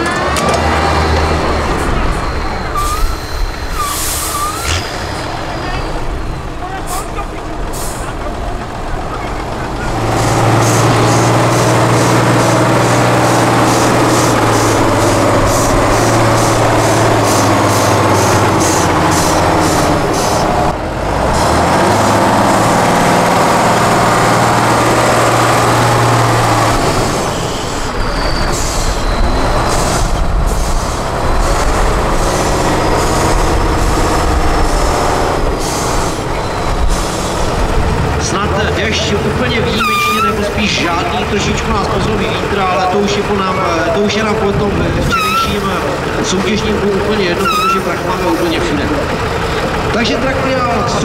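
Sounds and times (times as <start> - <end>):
truck diesel engine revving hard: 0.0 - 51.0.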